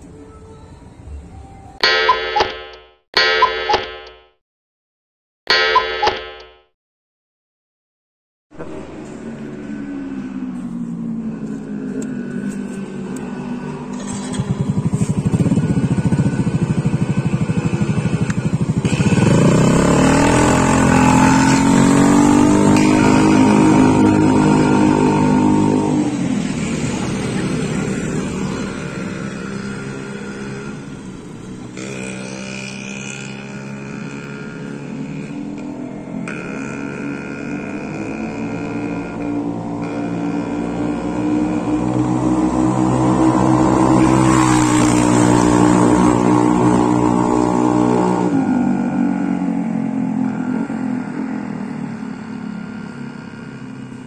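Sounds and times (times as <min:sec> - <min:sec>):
scooter engine accelerating: 0:08.6 - 0:54.0.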